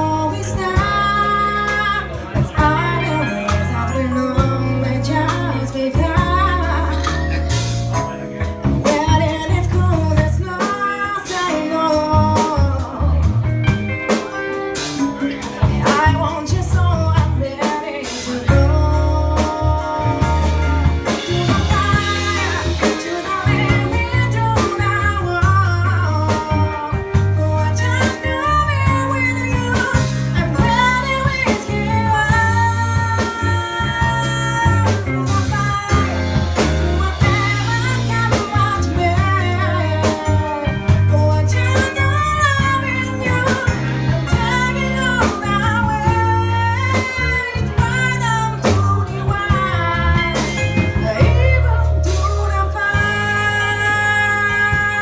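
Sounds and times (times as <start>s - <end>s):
bass: 0.0s - 55.0s
drums: 0.0s - 55.0s
guitar: 0.0s - 55.0s
person singing: 0.0s - 55.0s.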